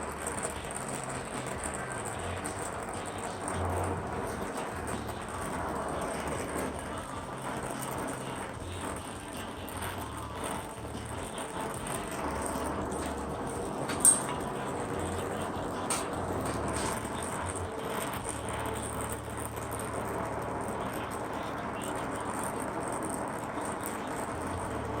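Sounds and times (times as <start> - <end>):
torch flame burning: 0.0 - 25.0.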